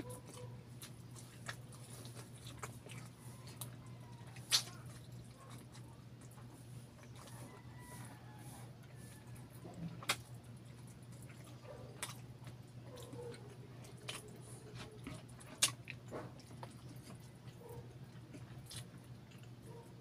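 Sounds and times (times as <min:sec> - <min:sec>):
chewing and biting: 0:00.0 - 0:20.0
low steady hum: 0:00.0 - 0:20.0.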